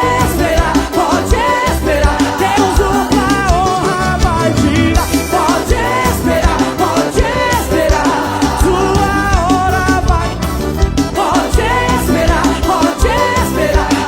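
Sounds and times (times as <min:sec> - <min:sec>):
bass: 0:00.0 - 0:14.0
person singing gospel melody: 0:00.0 - 0:14.0
drum beat: 0:00.2 - 0:14.0.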